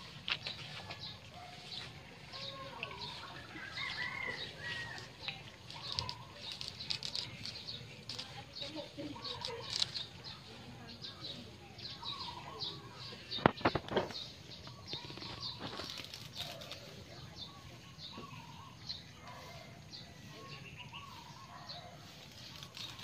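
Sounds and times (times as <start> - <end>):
leafy twigs rustling: 0.0 - 23.0
small birds chirping: 0.0 - 23.0.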